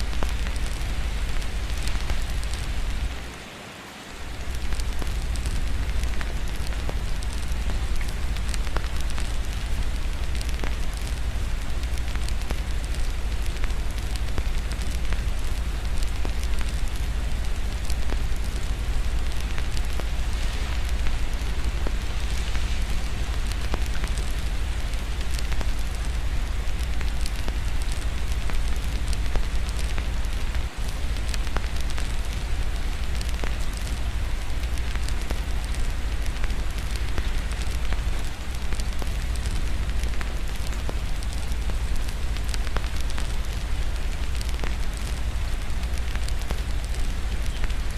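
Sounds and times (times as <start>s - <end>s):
fireplace crackling: 0.0s - 47.9s
rain pattering: 0.0s - 47.9s.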